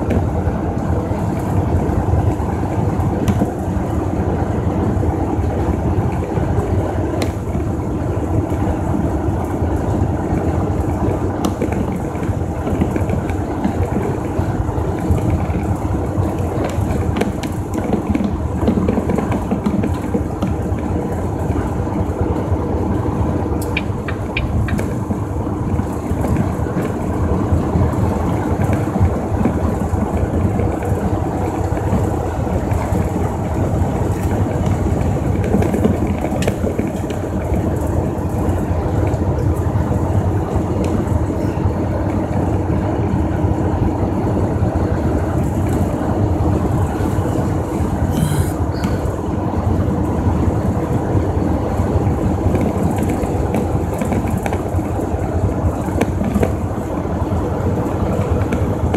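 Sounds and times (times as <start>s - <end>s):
truck engine and road rumble: 0.0s - 58.9s.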